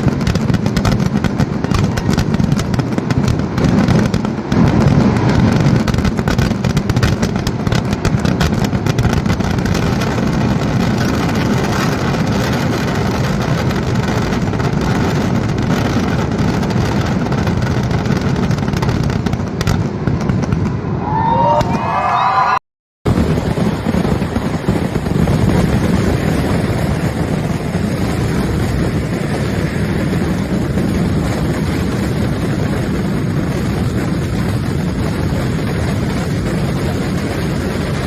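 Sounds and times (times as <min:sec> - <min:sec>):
rapid firecracker crackle: 0:00.0 - 0:20.9, 0:23.1 - 0:38.0
whistling fireworks: 0:00.0 - 0:38.0.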